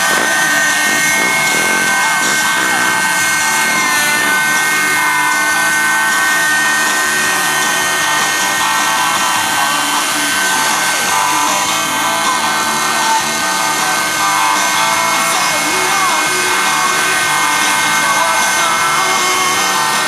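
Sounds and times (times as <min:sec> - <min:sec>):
model helicopter engine whining: 0:00.0 - 0:20.0.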